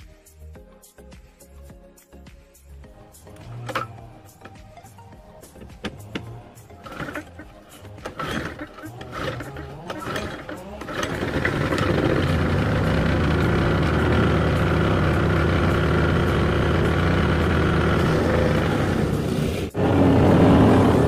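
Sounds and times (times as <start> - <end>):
lawn mower engine running: 3.0 - 21.0
recoil starter pull: 3.1 - 21.0.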